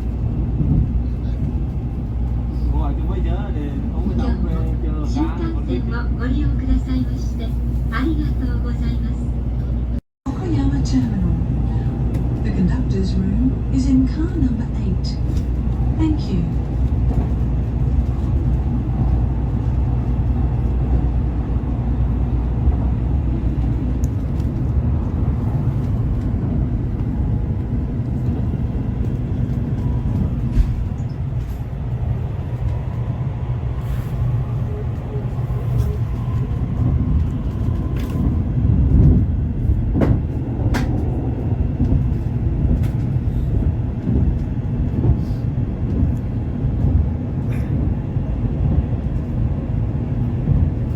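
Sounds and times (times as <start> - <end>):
train rumble from inside: 0.0 - 50.9.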